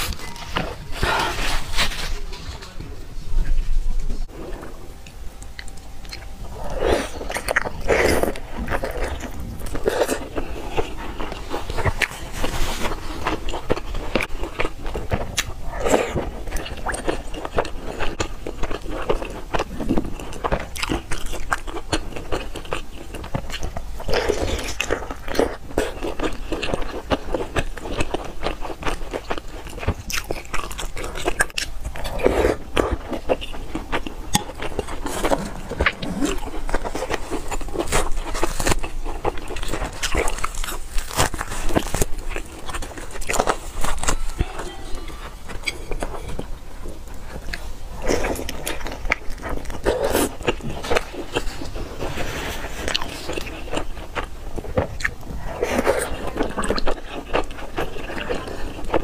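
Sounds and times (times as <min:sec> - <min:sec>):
person chewing food: 0:04.3 - 0:59.0.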